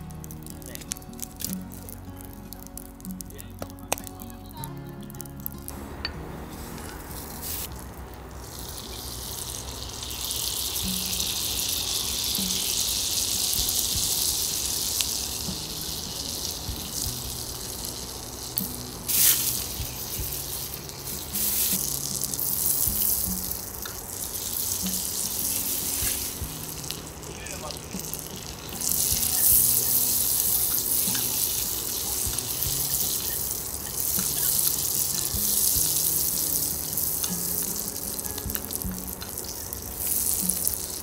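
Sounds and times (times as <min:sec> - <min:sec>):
food sizzling in a pan: 0:00.0 - 0:41.0
sharp crackles: 0:00.0 - 0:41.0
soft background music: 0:00.0 - 0:41.0.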